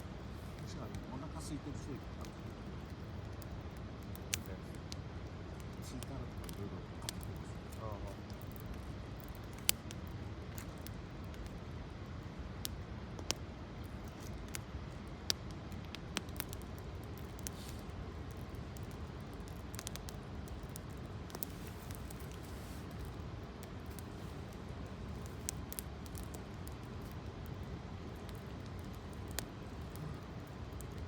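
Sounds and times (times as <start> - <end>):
campfire crackling and popping: 0.0 - 31.0
low background noise: 0.0 - 31.0.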